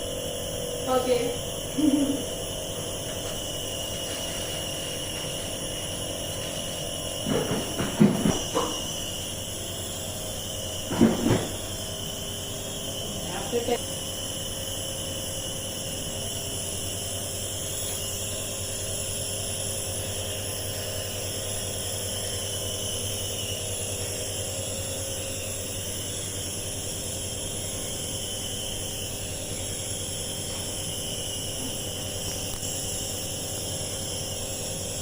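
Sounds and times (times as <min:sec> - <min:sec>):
air hissing: 0:00.0 - 0:35.0
nebuliser motor hum: 0:00.0 - 0:35.0.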